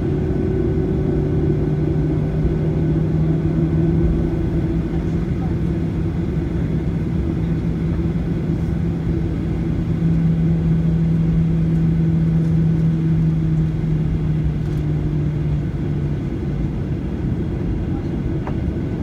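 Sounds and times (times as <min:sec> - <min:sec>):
jet engines droning in cabin: 0:00.0 - 0:19.0.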